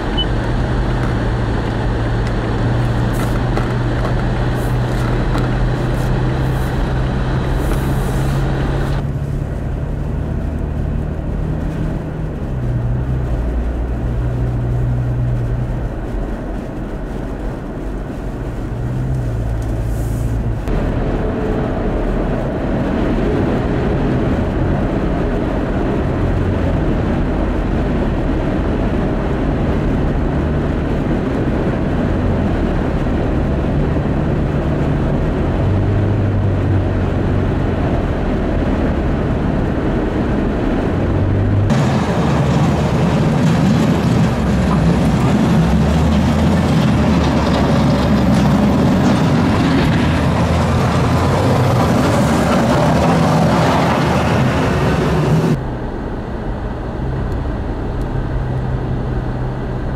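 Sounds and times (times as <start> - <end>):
car engine hum and road noise: 0.0 - 59.9.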